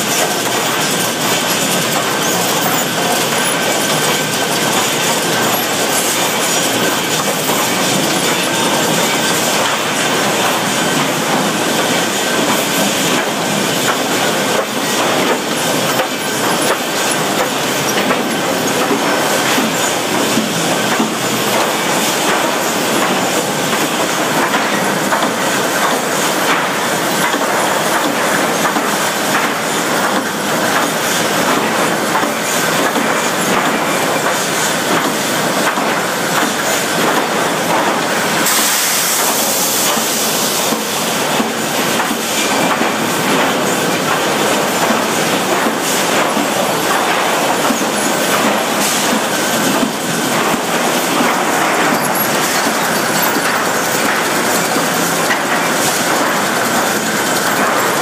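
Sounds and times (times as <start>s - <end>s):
conveyor chains and boards rattling: 0.0s - 58.0s.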